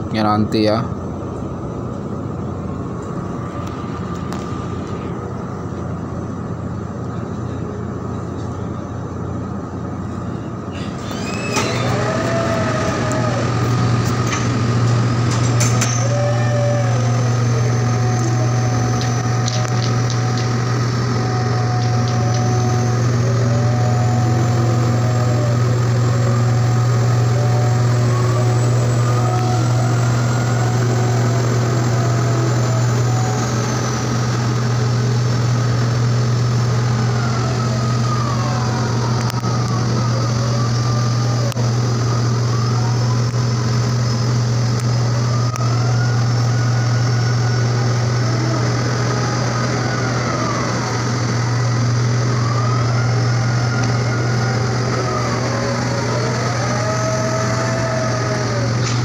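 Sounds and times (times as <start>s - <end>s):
marine diesel engine idling: 0.0s - 59.0s
whining tones gliding: 0.0s - 59.0s.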